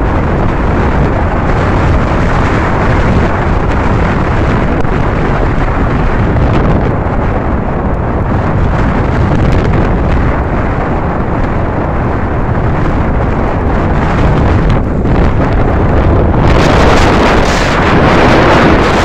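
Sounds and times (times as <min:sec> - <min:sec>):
road and vehicle noise: 0:00.0 - 0:19.0
wind buffeting microphone: 0:00.0 - 0:19.0.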